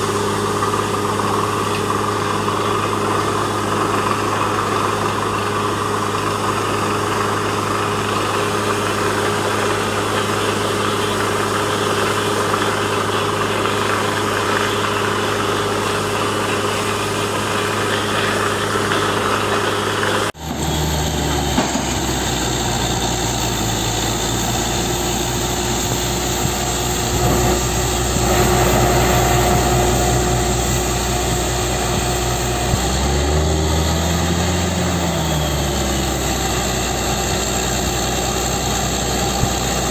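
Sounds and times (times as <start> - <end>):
drilling rig engine running: 0.0 - 39.9.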